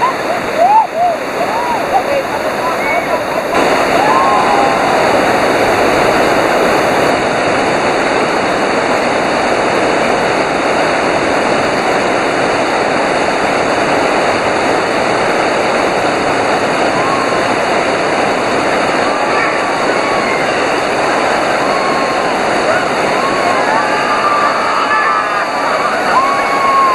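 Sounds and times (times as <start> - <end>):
river rapids rushing: 0.0 - 26.9.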